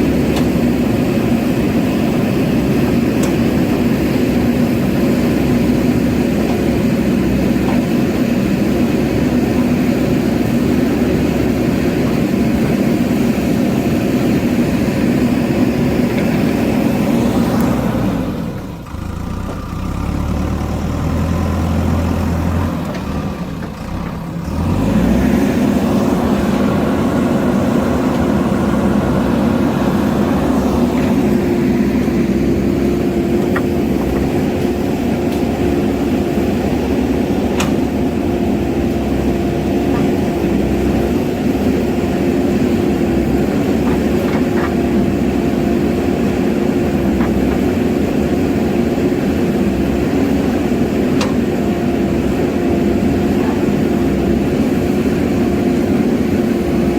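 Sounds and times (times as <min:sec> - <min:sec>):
backhoe diesel engine running: 0:00.0 - 0:56.9.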